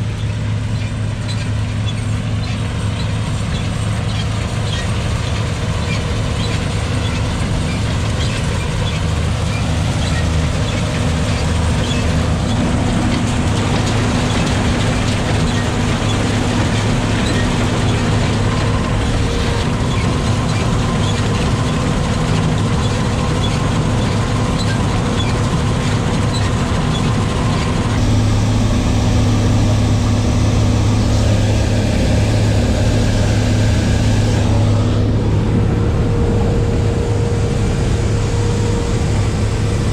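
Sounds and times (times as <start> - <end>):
combine engine drone: 0.0 - 39.9
threshing machinery whine: 0.0 - 39.9.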